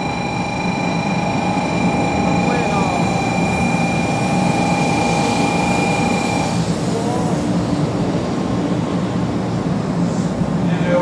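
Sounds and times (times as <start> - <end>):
train high whine: 0.0 - 11.0
train low rumble: 0.0 - 11.0.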